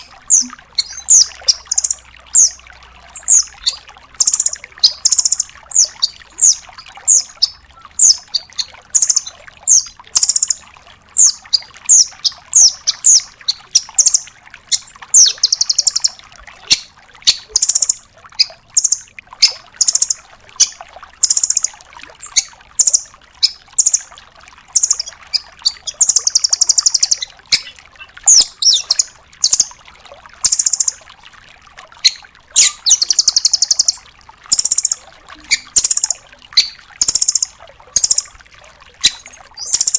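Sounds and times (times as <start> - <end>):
nuthatch calling: 0.0 - 10.6, 11.2 - 24.0, 24.8 - 27.7, 28.3 - 29.7, 32.0 - 38.3, 39.0 - 39.9.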